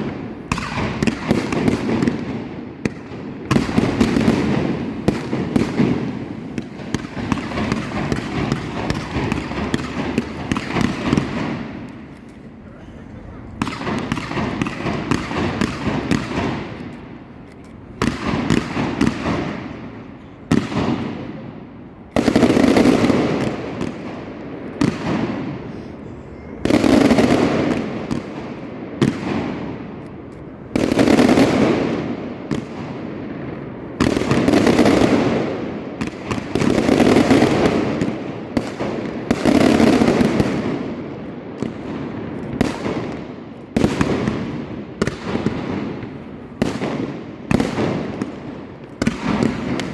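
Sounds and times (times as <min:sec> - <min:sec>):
firework shells bursting with crackle: 0:00.0 - 0:12.6, 0:13.4 - 0:25.8, 0:26.6 - 0:33.0, 0:34.0 - 0:49.9.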